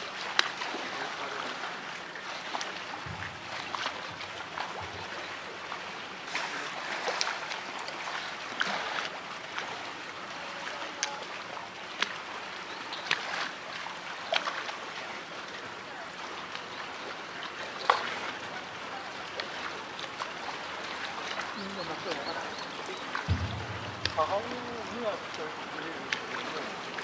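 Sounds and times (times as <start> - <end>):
water splashing over rock: 0.0 - 15.0, 17.4 - 27.0.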